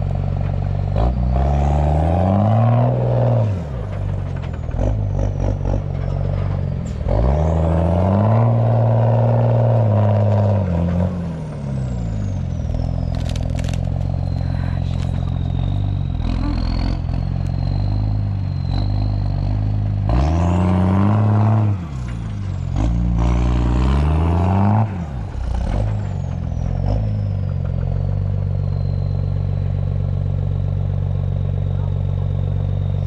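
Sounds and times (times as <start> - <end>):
diesel truck engine revving: 0.0 - 33.0.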